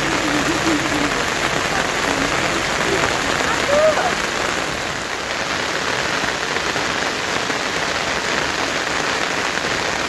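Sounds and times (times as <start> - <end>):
heavy rain falling: 0.0 - 10.0.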